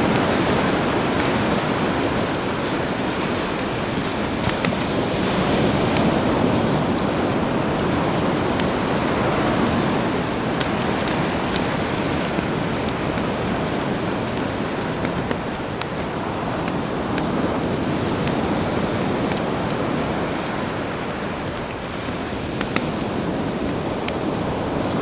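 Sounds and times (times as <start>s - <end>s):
campfire crackling: 0.0s - 25.0s
sea surf washing: 0.0s - 25.0s.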